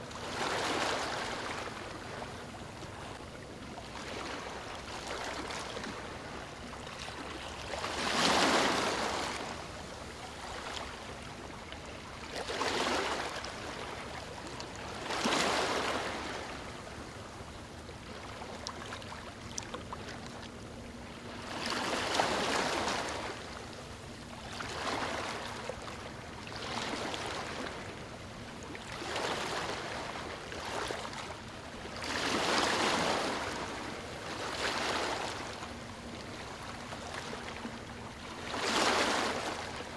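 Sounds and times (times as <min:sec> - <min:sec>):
ocean waves washing ashore: 0:00.0 - 0:17.3, 0:21.0 - 0:39.9.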